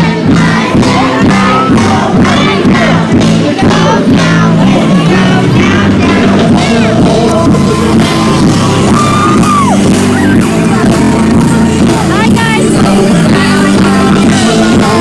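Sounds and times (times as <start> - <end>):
crowd singing and shouting: 0.0 - 15.0
live concert music: 0.0 - 15.0.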